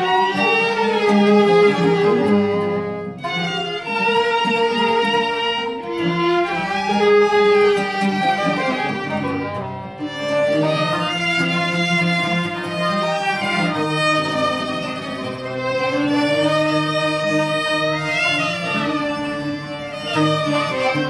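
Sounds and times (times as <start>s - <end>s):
melody of long held notes: 0.0s - 21.0s
oud plucked: 0.0s - 21.0s.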